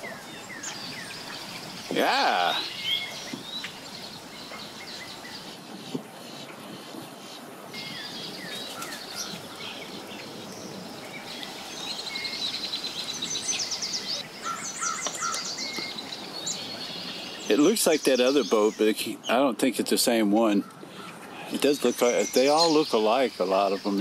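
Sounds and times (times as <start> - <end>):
birds chirping and trilling: 0.0 - 24.0
low background noise: 0.0 - 24.0.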